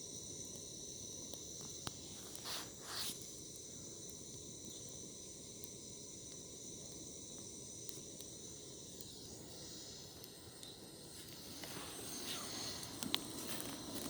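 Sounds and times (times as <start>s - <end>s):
wood fire hissing and crackling: 0.0s - 14.0s.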